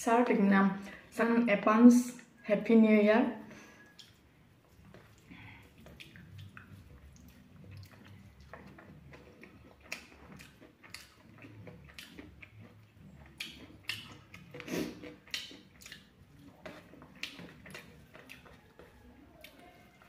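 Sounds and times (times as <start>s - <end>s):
person chewing with mouth smacks: 3.8s - 20.0s.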